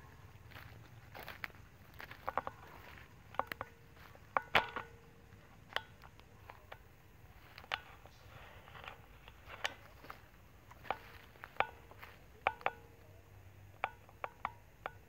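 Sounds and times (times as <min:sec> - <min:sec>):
light taps and clicks with ringing: 0:00.5 - 0:15.0.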